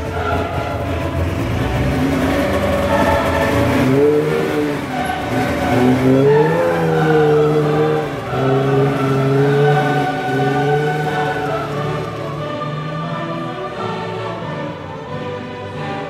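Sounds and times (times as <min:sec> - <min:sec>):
choir music: 0:00.0 - 0:16.0
snowmobile engine revving: 0:00.0 - 0:16.0.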